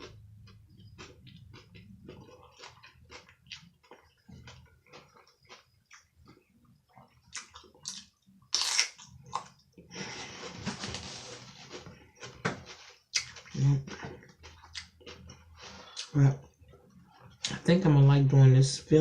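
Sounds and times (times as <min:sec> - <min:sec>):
mouth clicks and chewing: 0:00.0 - 0:09.6, 0:11.7 - 0:17.6.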